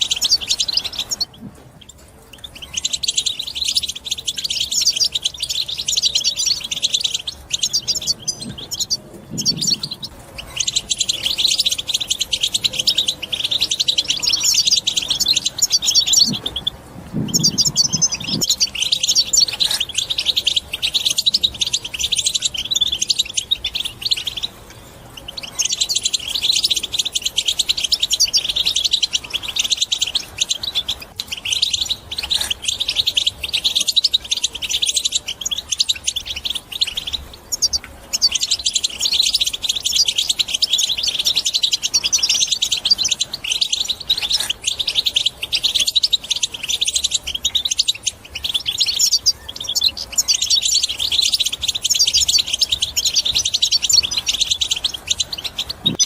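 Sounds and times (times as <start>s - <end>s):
goldfinch twittering song: 0.0s - 56.0s.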